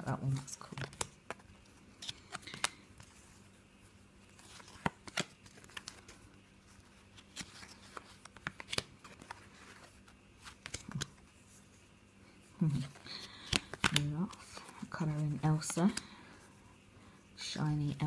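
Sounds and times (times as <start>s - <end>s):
cards rustling: 0.2s - 16.4s.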